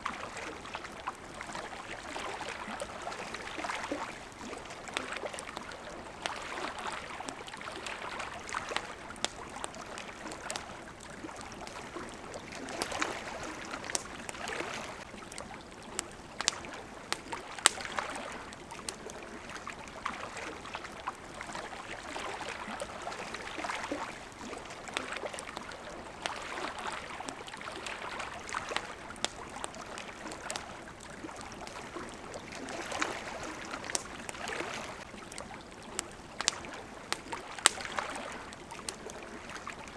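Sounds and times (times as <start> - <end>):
campfire crackling and popping: 0.0 - 39.9
waves lapping at the shore: 0.0 - 39.9.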